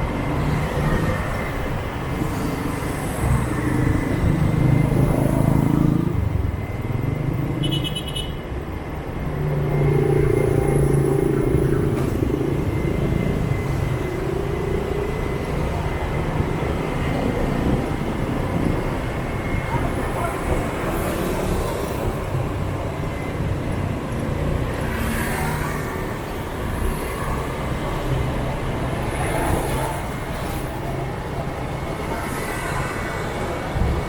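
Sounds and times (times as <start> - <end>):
motorbike and car traffic: 0.0 - 34.0.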